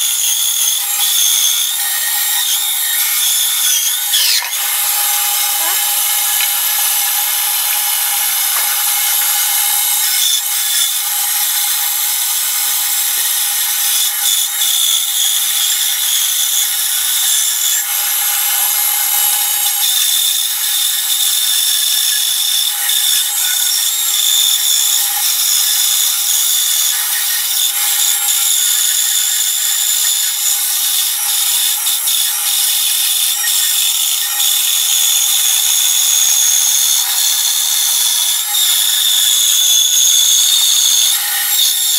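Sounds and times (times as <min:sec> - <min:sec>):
band saw cutting wood: 0:00.0 - 0:41.9.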